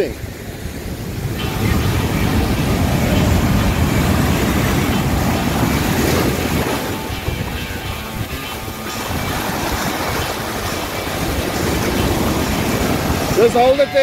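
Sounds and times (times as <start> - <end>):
ocean waves breaking: 0.0 - 14.0
wind buffeting microphone: 0.0 - 14.0.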